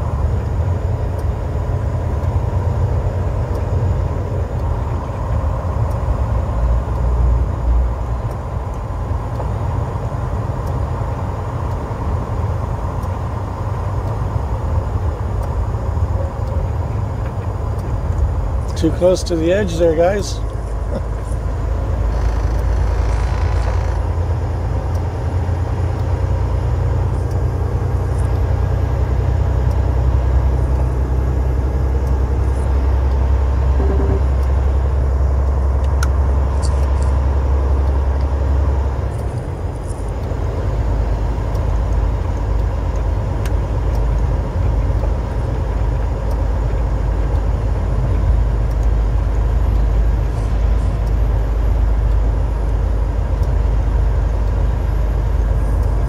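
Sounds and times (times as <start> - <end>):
diesel engine droning: 0.0 - 56.0
tyres on snowy road: 0.0 - 56.0.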